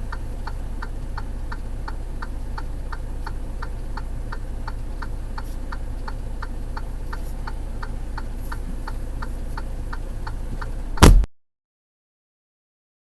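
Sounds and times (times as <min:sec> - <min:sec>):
truck engine idling: 0:00.0 - 0:11.3.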